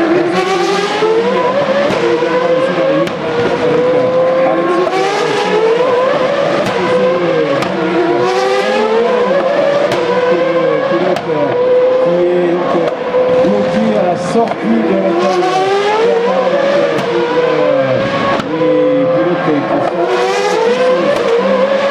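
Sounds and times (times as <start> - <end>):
racing car engines accelerating: 0.0 - 21.9.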